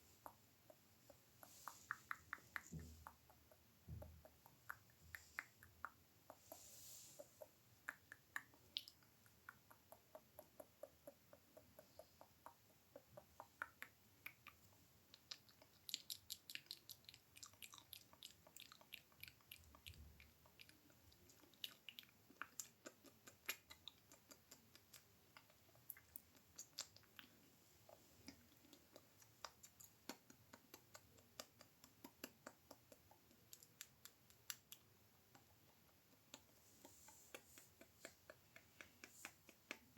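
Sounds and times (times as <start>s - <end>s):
mouth clicks and smacks: 0.0s - 39.9s.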